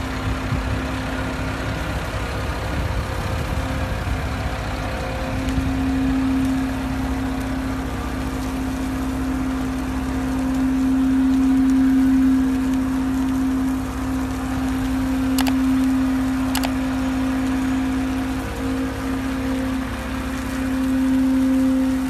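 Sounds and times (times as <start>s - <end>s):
tractor diesel engine droning: 0.0s - 22.0s.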